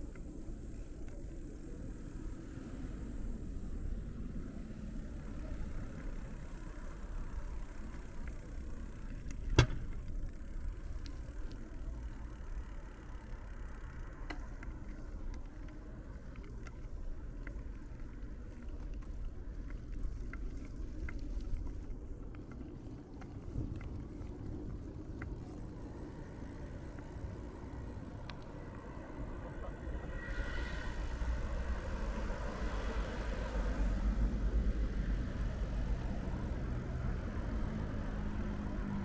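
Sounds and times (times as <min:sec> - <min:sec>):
faint ticks: 0:00.0 - 0:39.0
road traffic rumble: 0:00.0 - 0:39.0.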